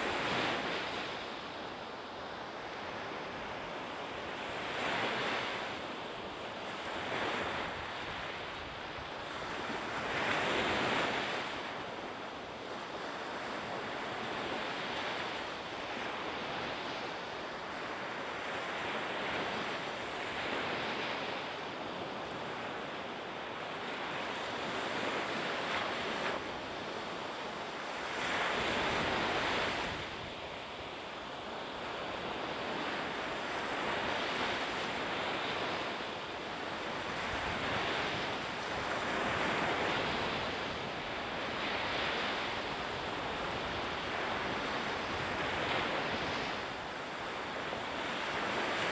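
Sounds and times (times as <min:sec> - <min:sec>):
wind: 0:00.0 - 0:48.9.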